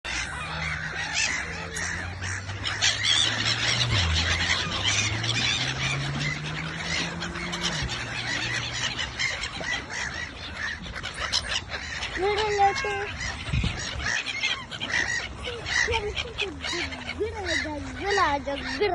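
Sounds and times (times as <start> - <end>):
flock of birds calling: 0.0 - 18.9.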